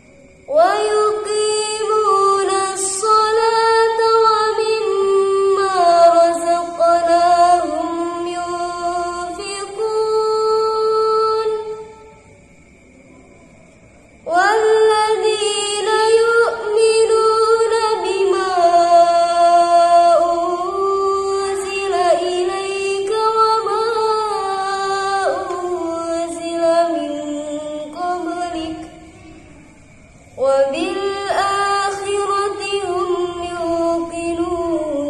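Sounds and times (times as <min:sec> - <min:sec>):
woman reciting melodically: 0:00.0 - 0:12.5, 0:14.2 - 0:35.0.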